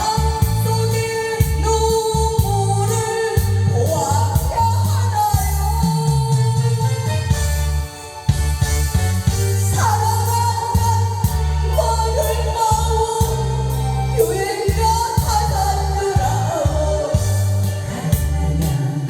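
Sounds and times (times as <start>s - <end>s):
steady drum beat: 0.0s - 6.7s, 7.3s - 13.8s, 14.6s - 19.0s
heavy bass: 0.0s - 19.0s.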